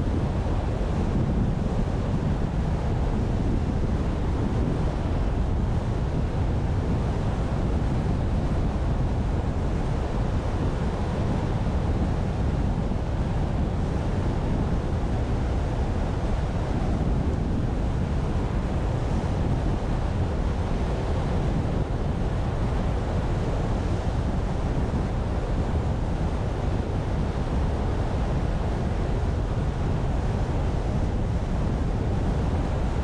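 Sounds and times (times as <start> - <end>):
wind noise on microphone: 0.0 - 33.0.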